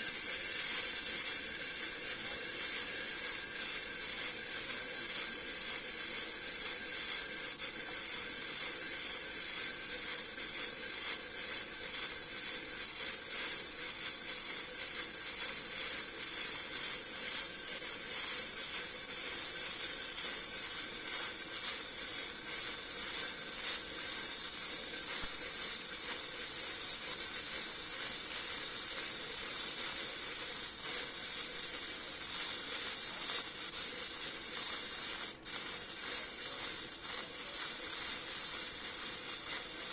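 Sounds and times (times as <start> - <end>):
arc welding hiss: 0.0 - 39.9.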